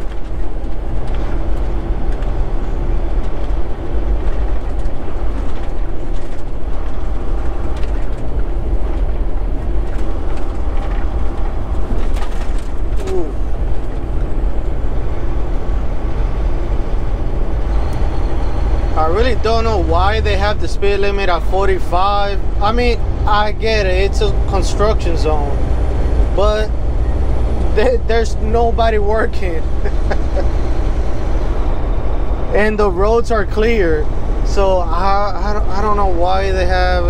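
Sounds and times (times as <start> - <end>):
truck engine and tyre rumble: 0.0 - 37.0.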